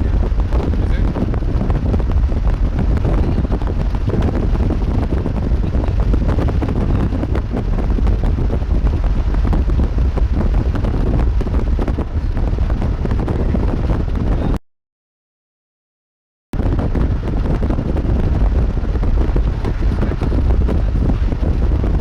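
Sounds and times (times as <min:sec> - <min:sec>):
wind buffeting microphone: 0:00.0 - 0:14.6, 0:16.6 - 0:22.0.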